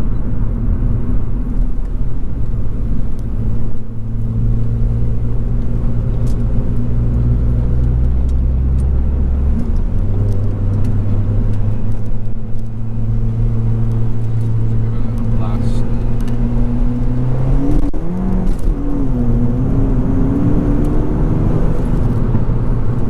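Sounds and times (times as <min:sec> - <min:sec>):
car engine running: 0:00.0 - 0:23.0
road noise: 0:00.0 - 0:23.0.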